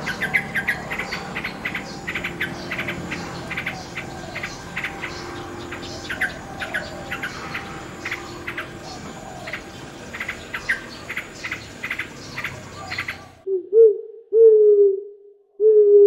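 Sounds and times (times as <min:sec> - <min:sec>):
bird or insect chirps: 0:00.0 - 0:13.4.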